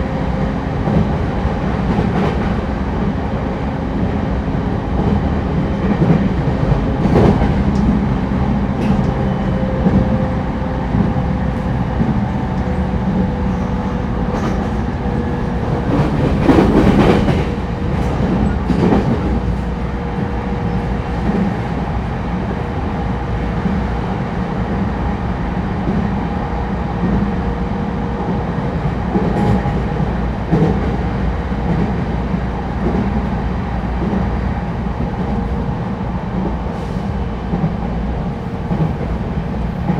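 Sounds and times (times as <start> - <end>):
train car rumble and hum: 0.0 - 39.9.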